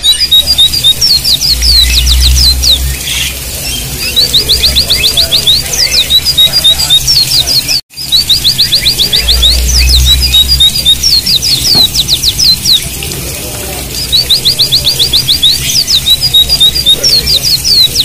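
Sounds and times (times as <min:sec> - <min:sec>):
birds singing whistled notes: 0:00.0 - 0:18.0.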